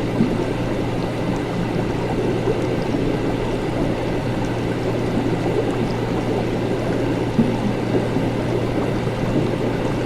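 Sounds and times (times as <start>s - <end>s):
liquid bubbling and gurgling: 0.0s - 10.0s
low electrical hum: 0.0s - 10.0s.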